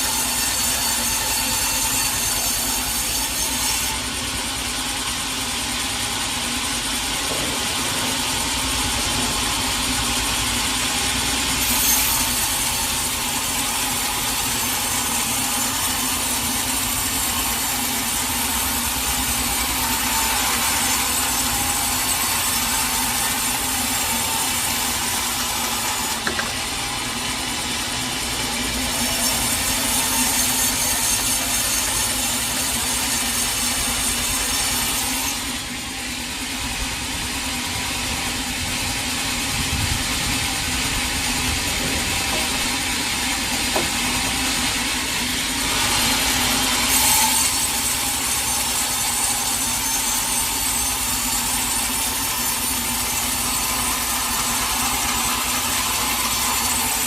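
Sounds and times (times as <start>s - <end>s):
sawmill saw cutting wood: 0.0s - 57.0s.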